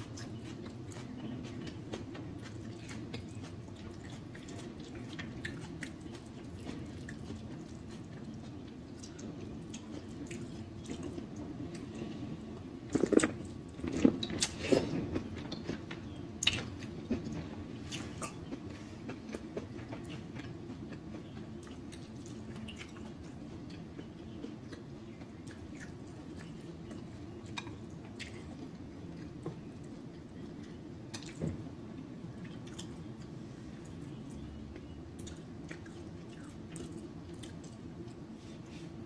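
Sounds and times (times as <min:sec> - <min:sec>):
person chewing wetly: 0:00.0 - 0:12.3, 0:12.9 - 0:31.4, 0:32.3 - 0:38.3.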